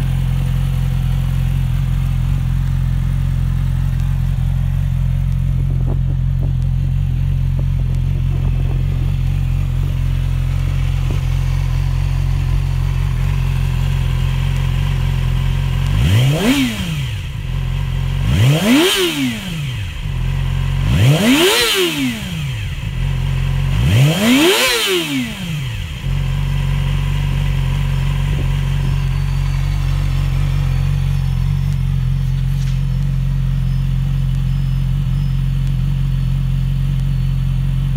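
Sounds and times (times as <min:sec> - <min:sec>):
motorcycle engine idling: 0:00.0 - 0:37.9
motorcycle engine revving: 0:00.0 - 0:37.9.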